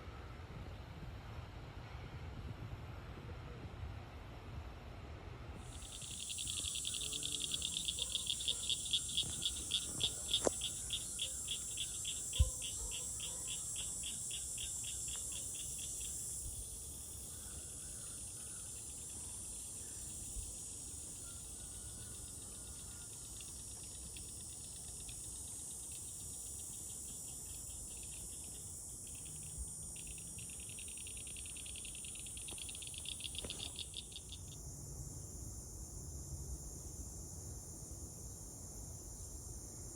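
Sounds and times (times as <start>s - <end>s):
insect high-pitched buzz: 5.6s - 39.9s
insect pulsing trill: 5.6s - 39.9s.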